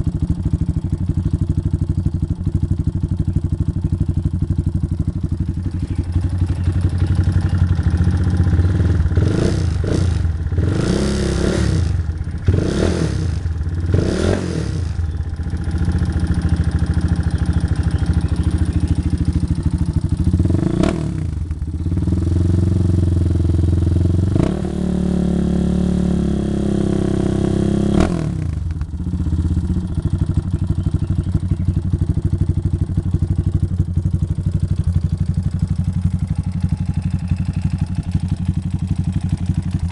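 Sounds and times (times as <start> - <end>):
motorcycle idling and revving: 0.0 - 39.9.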